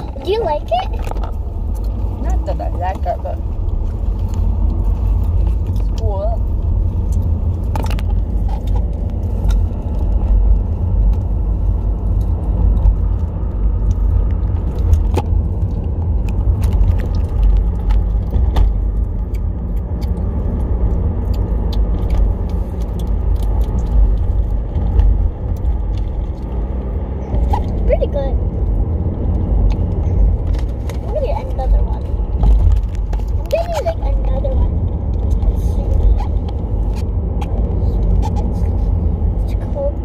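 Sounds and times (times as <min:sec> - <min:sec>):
car cabin rumble: 0:00.0 - 0:40.0.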